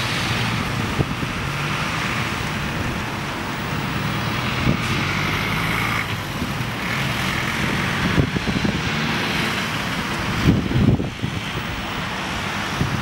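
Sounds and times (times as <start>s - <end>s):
wind buffeting microphone: 0.0s - 3.2s, 4.2s - 5.3s, 6.2s - 13.0s.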